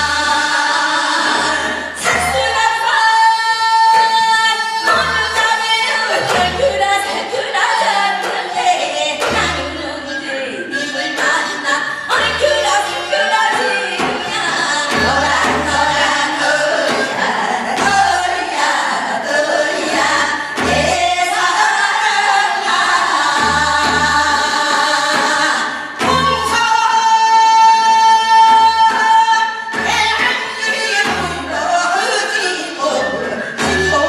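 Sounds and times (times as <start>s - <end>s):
folk singing: 0.0s - 34.0s.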